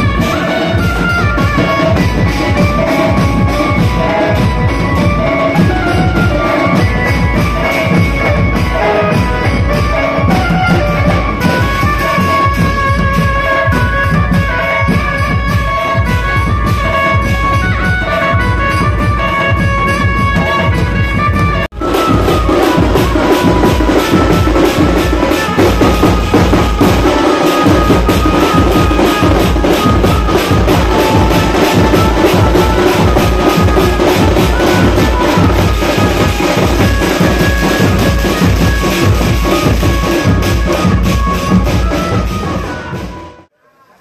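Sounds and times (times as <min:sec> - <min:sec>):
bass drums beating: 0:00.0 - 0:43.4.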